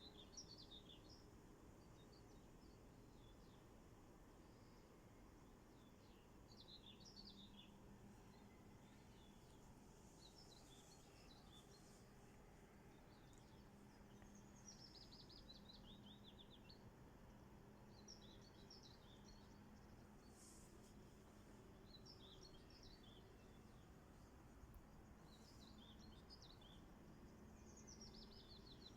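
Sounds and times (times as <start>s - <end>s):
faint songbirds singing: 0.0s - 28.9s
faint steady low hum: 0.0s - 28.9s.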